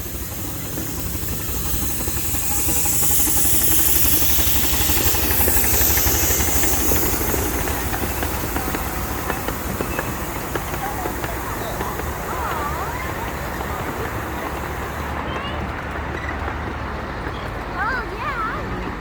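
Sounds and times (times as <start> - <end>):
hiss: 0.0 - 15.3
miniature train rumbling on track: 0.0 - 19.0.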